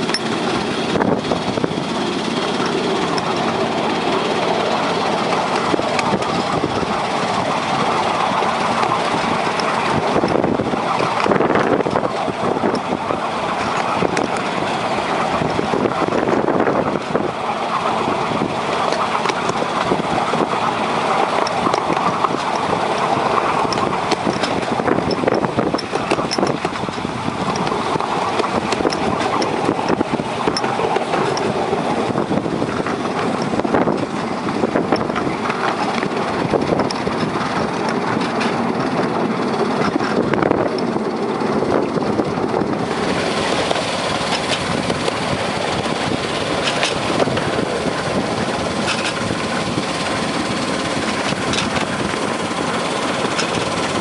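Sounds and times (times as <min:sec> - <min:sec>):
small locomotive engine running: 0:00.0 - 0:54.0
train wheels rumbling on track: 0:00.0 - 0:54.0.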